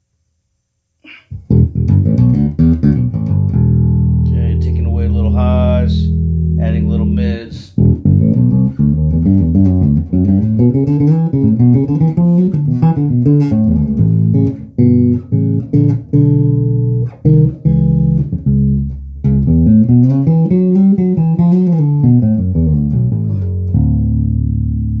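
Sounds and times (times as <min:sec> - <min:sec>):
bass guitar played fingerstyle: 0:01.0 - 0:25.0.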